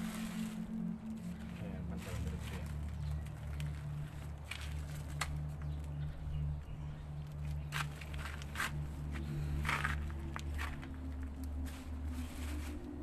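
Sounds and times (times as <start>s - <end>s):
dry debris rustling and scraping: 0.0s - 6.1s, 7.2s - 13.0s
low hum: 0.0s - 13.0s.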